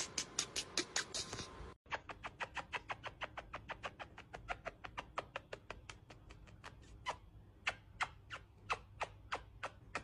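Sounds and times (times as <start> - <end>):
kissing smacks of lips: 0.2 - 10.0.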